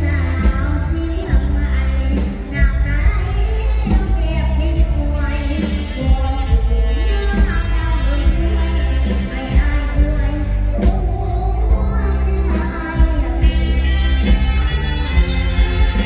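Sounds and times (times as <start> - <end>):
girl singing into a microphone: 0.0 - 14.8
live band music over a pa: 0.0 - 16.0.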